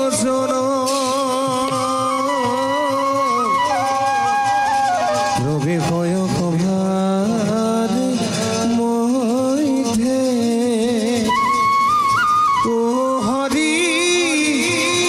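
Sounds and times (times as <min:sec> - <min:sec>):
drum strokes: 0:00.0 - 0:15.0.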